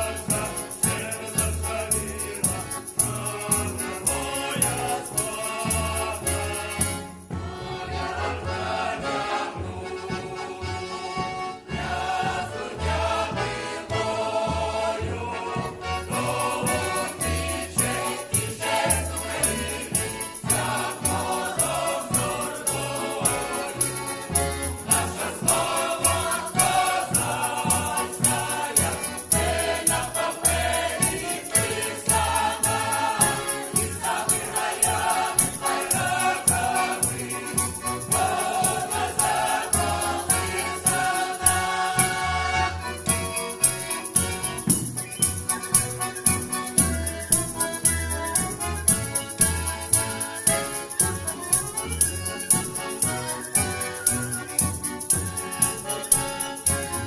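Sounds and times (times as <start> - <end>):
choir singing folk song: 0.0 - 57.0
jingling percussion beat: 0.0 - 57.0.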